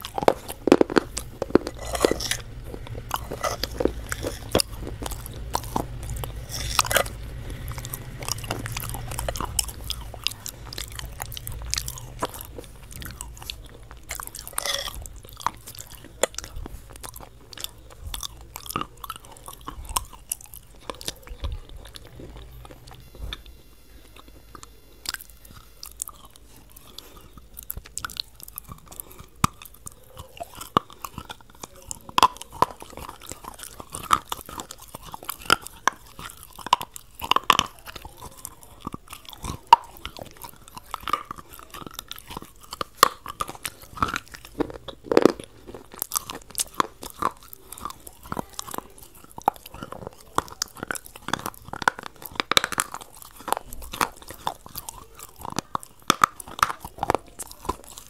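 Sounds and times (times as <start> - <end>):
chewing crispy fried food: 0.0 - 58.0.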